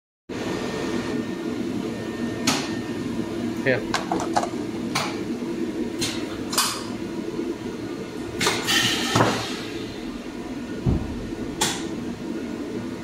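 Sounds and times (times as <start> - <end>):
machine hum: 0.3 - 13.0.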